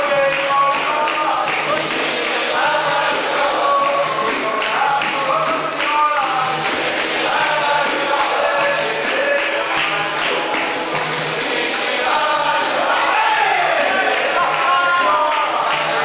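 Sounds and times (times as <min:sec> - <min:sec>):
steady percussion: 0:00.0 - 0:16.0
tambourine jangle: 0:00.0 - 0:16.0
voices singing together: 0:00.0 - 0:16.0.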